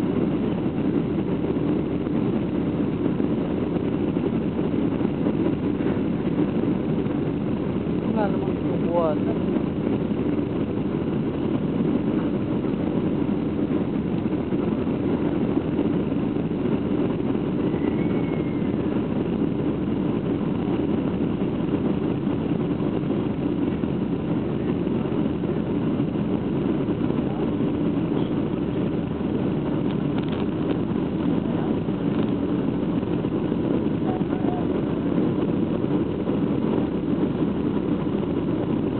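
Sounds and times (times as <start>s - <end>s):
jet engines rumbling: 0.0s - 38.9s
rushing air: 0.0s - 38.9s.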